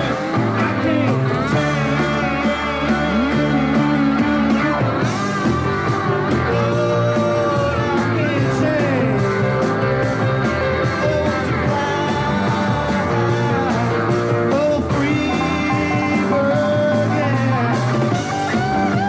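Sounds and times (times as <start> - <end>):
bass and drums: 0.0 - 19.0
electric guitars sliding in pitch: 0.0 - 19.0.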